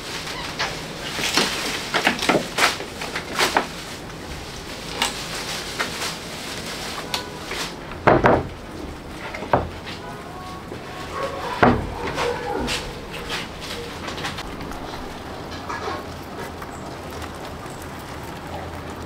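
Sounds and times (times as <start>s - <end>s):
objects knocking and clattering: 0.4s - 3.9s, 4.8s - 17.5s.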